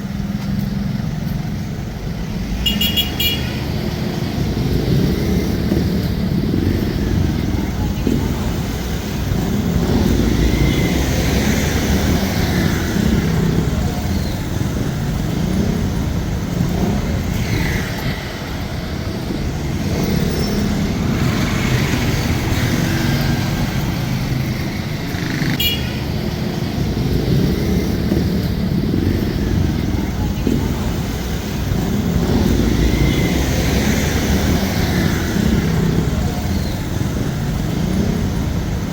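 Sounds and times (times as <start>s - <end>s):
traffic rumble: 0.0s - 38.9s.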